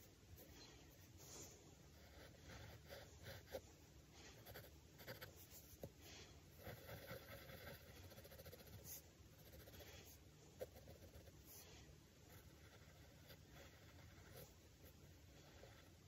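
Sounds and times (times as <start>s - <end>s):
pencil scratching on paper: 0.0s - 6.0s, 6.6s - 16.0s.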